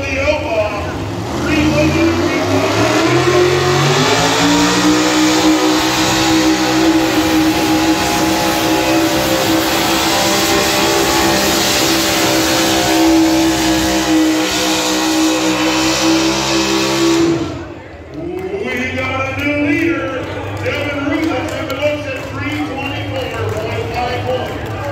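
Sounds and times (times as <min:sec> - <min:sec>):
truck engine at full throttle: 0:00.0 - 0:24.9.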